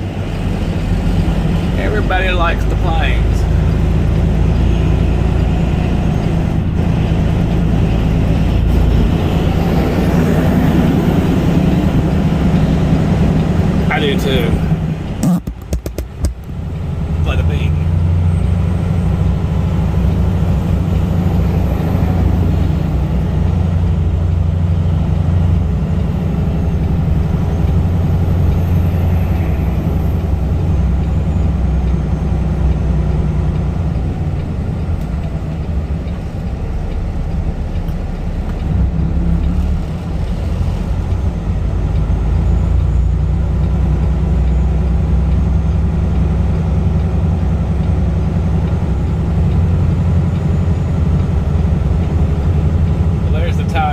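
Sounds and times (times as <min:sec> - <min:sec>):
truck diesel engine droning: 0:00.0 - 0:53.9.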